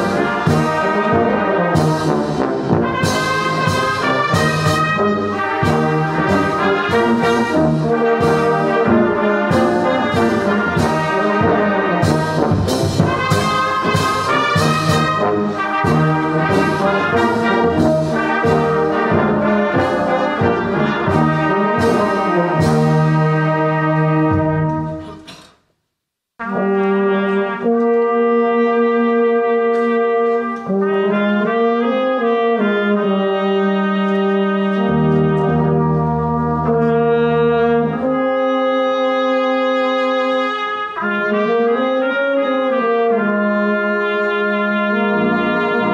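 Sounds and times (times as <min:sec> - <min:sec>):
brass band playing a hymn: 0:00.0 - 0:25.3, 0:26.4 - 0:45.9.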